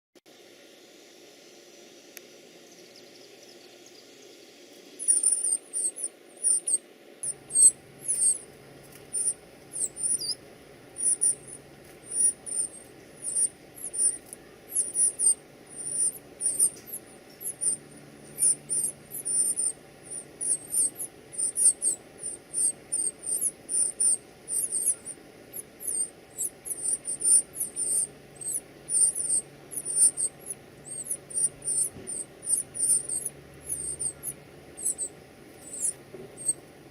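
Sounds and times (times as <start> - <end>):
baby birds cheeping: 2.6 - 36.9.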